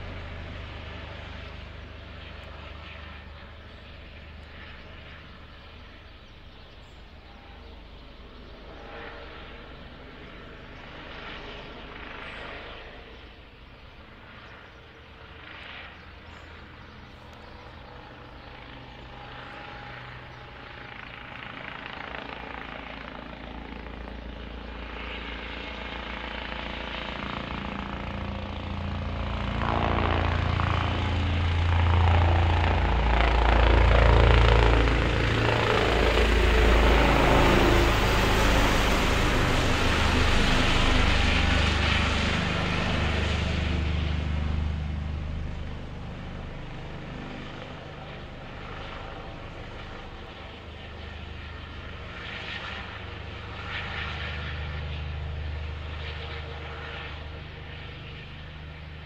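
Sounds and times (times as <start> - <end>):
helicopter flying overhead: 0.0 - 59.0.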